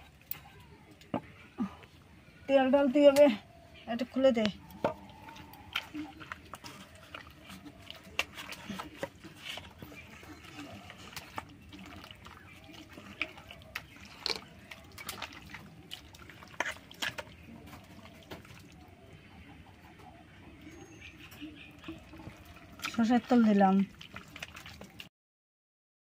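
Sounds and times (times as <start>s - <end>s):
hands kneading meat wet squelches: 0.0s - 25.1s.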